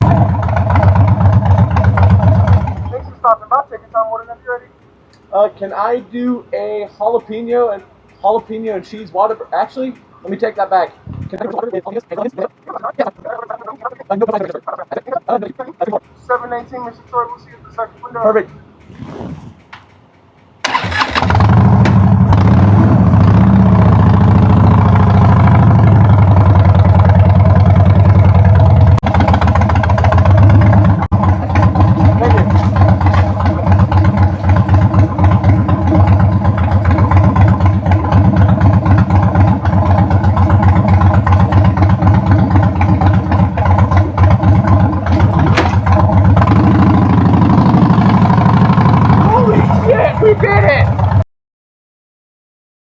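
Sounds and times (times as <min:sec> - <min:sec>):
motorcycle engine starting and running: 0:00.0 - 0:51.2.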